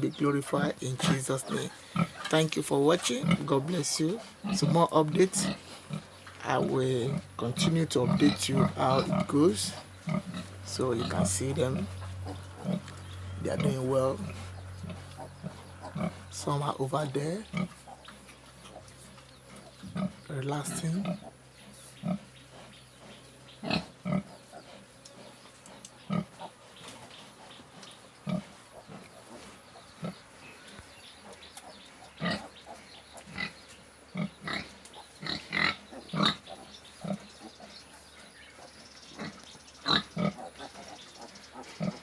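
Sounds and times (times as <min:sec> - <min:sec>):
pigs grunting: 0:00.0 - 0:38.0, 0:39.1 - 0:42.0.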